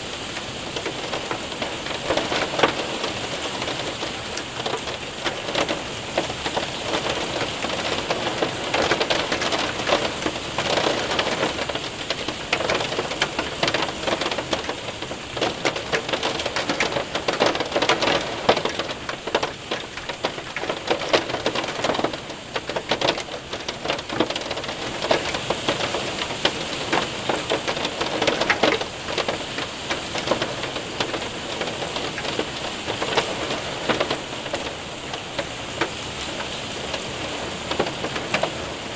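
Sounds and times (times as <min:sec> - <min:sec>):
hail and rain pelting window: 0:00.0 - 0:38.9.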